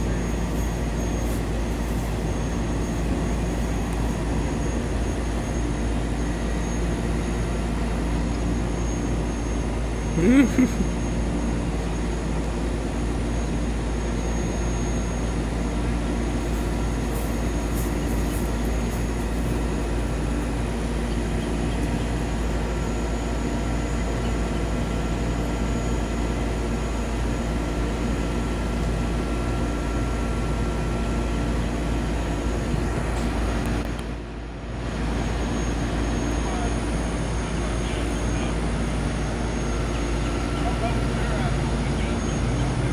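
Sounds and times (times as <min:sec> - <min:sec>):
diesel truck engine running: 0:00.0 - 0:42.9
faint high whine: 0:00.0 - 0:42.9.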